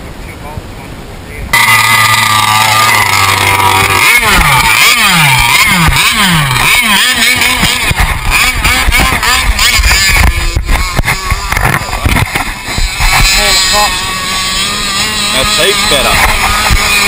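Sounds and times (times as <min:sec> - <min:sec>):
two-stroke boat engine revving: 0:01.5 - 0:17.0.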